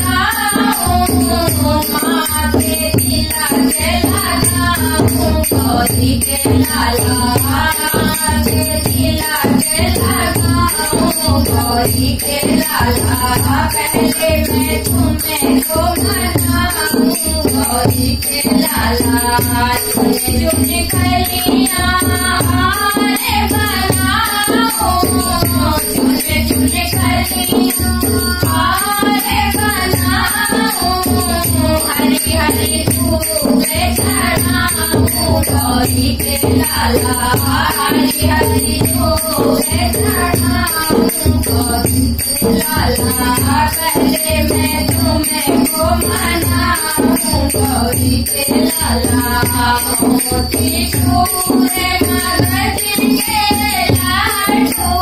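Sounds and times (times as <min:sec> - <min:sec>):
hand drum beating: 0:00.0 - 0:55.0
small hand cymbals jingling: 0:00.0 - 0:55.0
women singing devotional song: 0:00.0 - 0:55.0.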